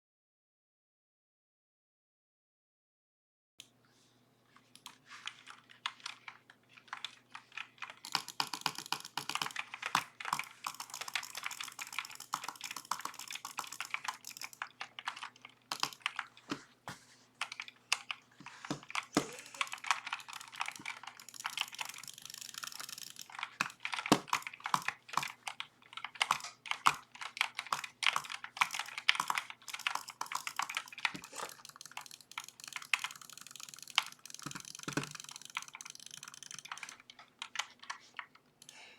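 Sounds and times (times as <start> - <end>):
mechanical keyboard typing: 4.8 - 16.7, 17.4 - 38.8.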